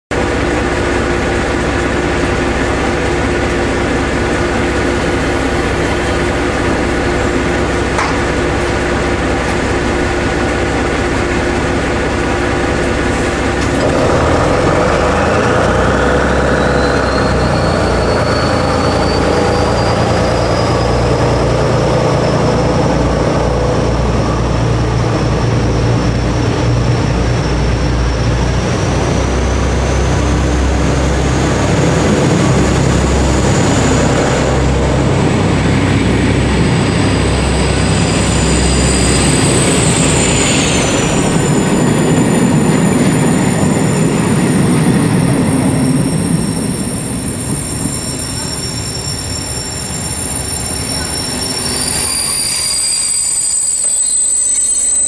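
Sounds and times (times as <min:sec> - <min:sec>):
rising whine: 0:00.1 - 0:55.0
train machinery hum: 0:00.1 - 0:55.0.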